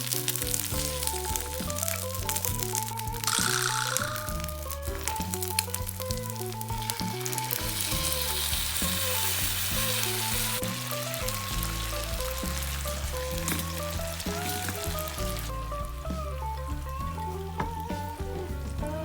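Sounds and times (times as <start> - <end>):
meat sizzling in a frying pan: 0.0 - 16.2.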